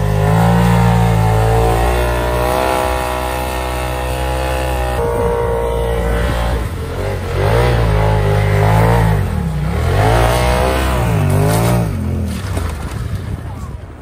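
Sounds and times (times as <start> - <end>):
engine revving hard: 0.0 - 12.3.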